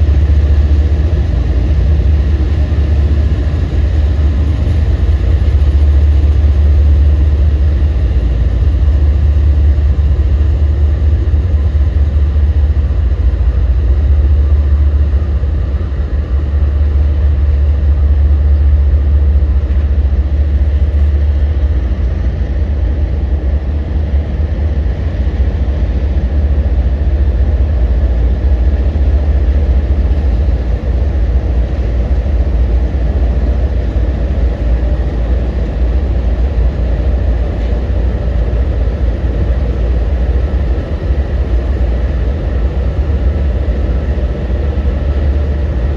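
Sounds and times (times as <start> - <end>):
diesel locomotive engine rumble: 0.0 - 45.9.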